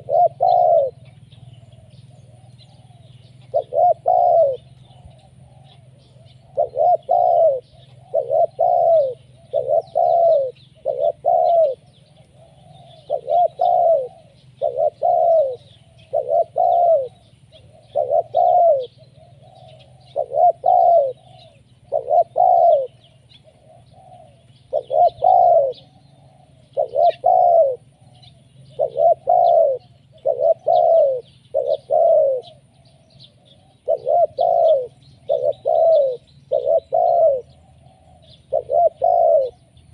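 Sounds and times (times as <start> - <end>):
dove cooing: 0.0 - 39.9
low steady hum: 0.0 - 39.9.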